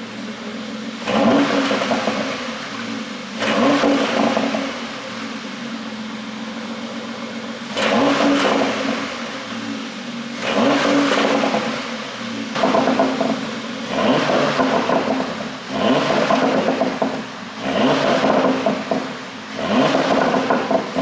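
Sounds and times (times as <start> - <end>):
car engine idling and revving: 0.0 - 21.0
exhaust popping and crackling: 0.0 - 21.0.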